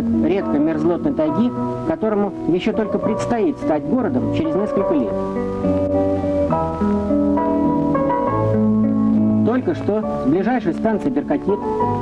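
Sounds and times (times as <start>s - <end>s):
background music sustained chords: 0.0s - 12.0s.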